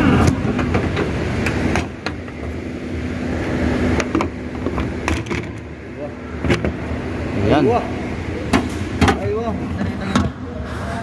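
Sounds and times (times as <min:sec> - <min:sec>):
low hum of workshop machinery: 0:00.0 - 0:11.0.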